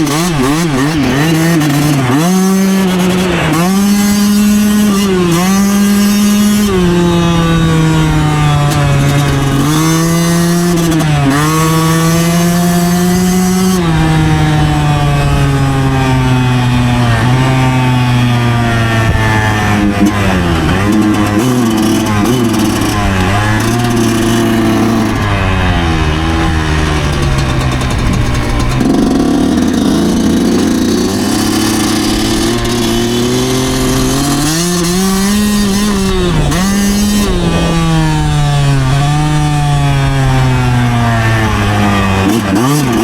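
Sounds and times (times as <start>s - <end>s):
two-stroke motorcycle engine revving: 0.0s - 43.0s.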